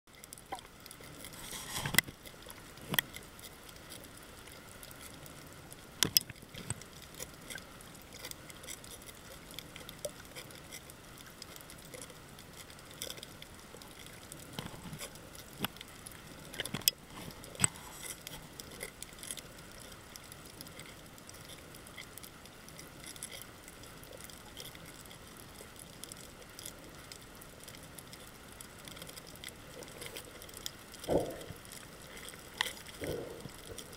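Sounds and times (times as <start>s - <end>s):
faint steady underwater hiss: 0.1s - 33.9s
sharp reef clicks: 0.1s - 33.9s.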